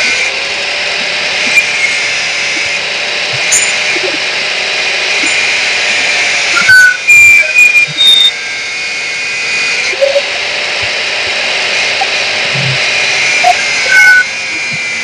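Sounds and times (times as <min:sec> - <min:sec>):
power tool hissing on metal: 0:00.0 - 0:15.0
high squeals: 0:01.2 - 0:15.0.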